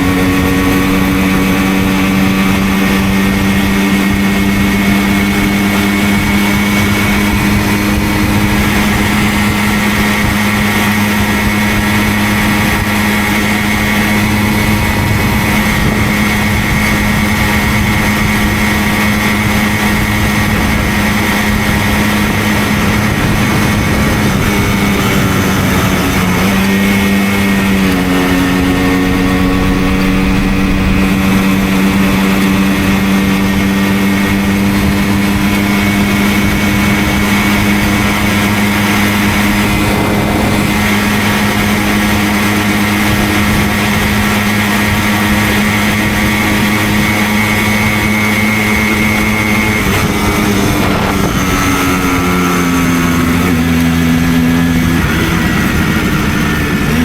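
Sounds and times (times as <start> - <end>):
moped engine pulling: 0.0 - 57.0.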